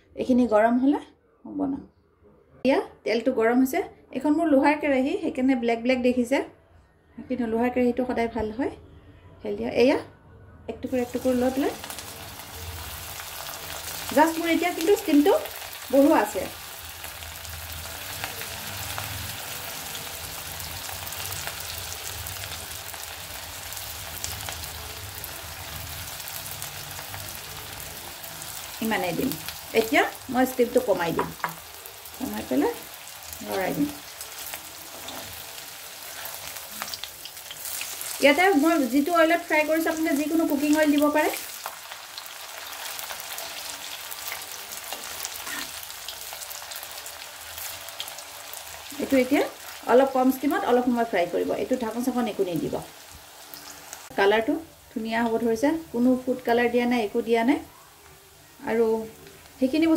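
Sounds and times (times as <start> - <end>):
deep-frying sizzle with crackles: 10.9 - 59.9.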